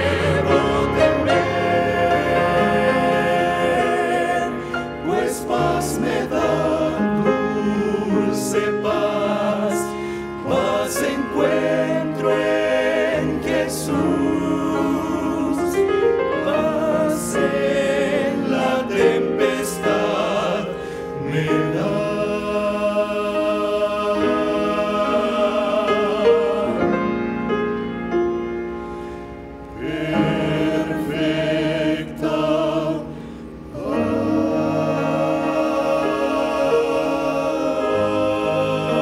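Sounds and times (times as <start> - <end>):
male choir singing a hymn: 0.0 - 27.3, 29.7 - 39.0.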